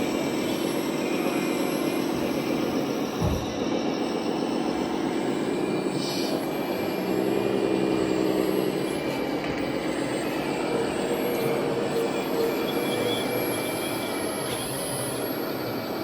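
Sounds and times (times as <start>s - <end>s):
recorded diesel engine drone: 0.0s - 16.0s.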